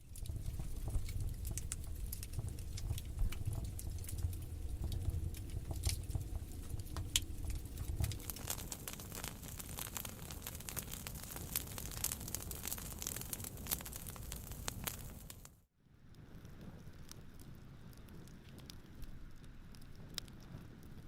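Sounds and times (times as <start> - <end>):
low fire rumble: 0.0 - 21.0
wood fire crackling: 0.0 - 21.0.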